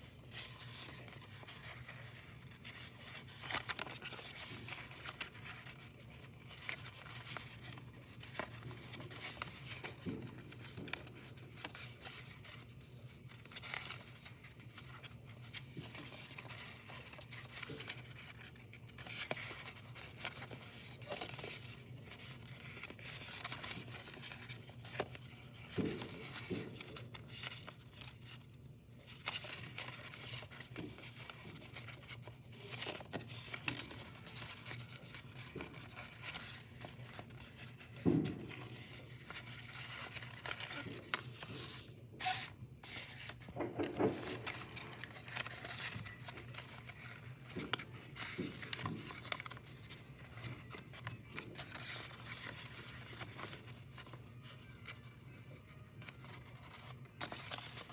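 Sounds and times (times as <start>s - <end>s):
paper rustling and crinkling: 0.0s - 57.9s.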